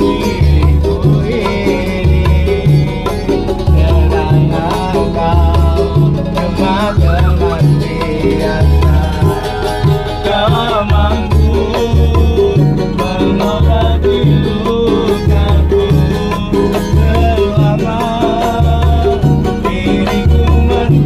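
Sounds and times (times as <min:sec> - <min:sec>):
man singing: 0:00.0 - 0:21.0
pulsing bass line: 0:00.0 - 0:21.0
strummed small guitar: 0:00.0 - 0:21.0.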